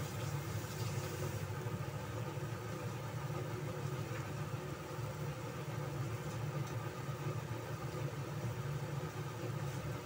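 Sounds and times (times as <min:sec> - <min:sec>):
squash frying in oil: 0:00.0 - 0:10.0.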